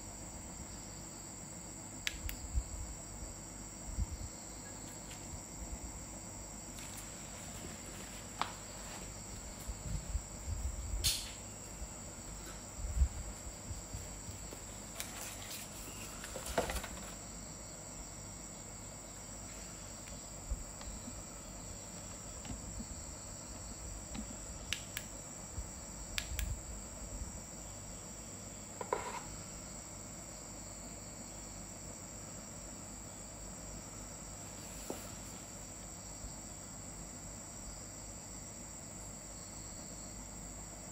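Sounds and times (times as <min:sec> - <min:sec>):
cricket trill: 0:00.0 - 0:40.9.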